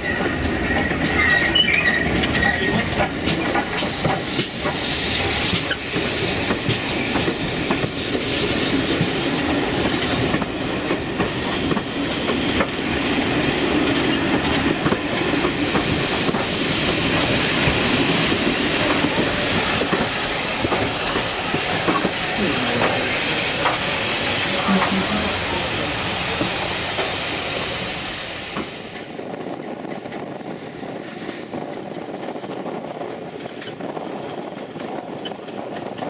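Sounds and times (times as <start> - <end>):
steam train rumble: 0.0 - 36.0.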